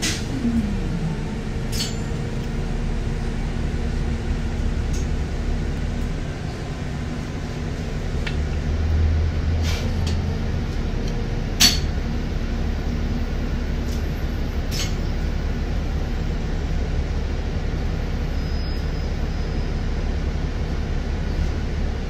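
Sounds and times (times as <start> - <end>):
car rumble from inside: 0.0 - 19.6.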